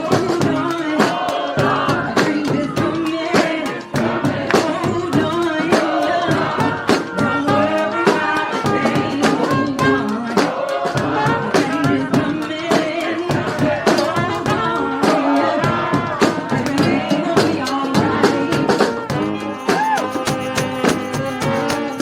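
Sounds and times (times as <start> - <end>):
brass band horns: 0.0 - 22.0
driving drumbeat: 0.0 - 22.0.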